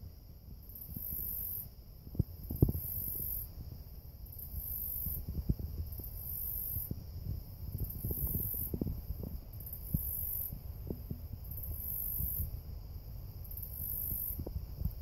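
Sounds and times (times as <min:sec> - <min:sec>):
insects buzzing in pulses: 0:00.0 - 0:15.0
insects whining: 0:00.1 - 0:15.0.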